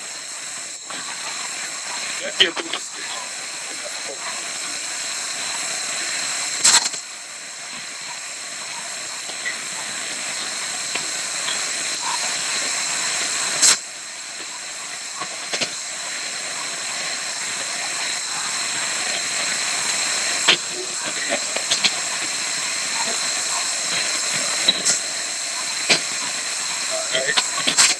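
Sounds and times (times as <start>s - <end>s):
wind and rain hissing: 0.0s - 27.9s.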